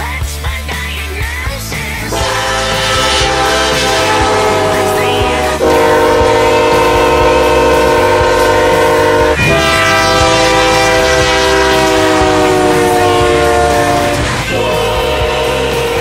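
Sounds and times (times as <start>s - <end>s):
locomotive air horn chords: 2.1s - 16.0s.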